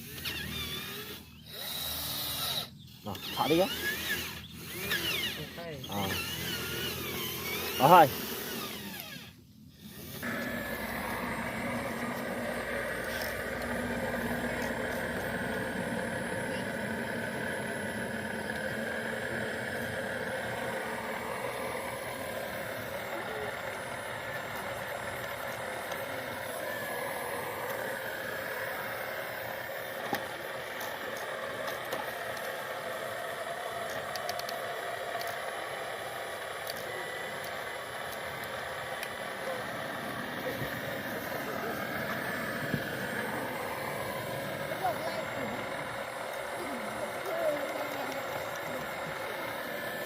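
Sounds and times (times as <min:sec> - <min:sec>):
small motors whining: 0:00.0 - 0:50.0.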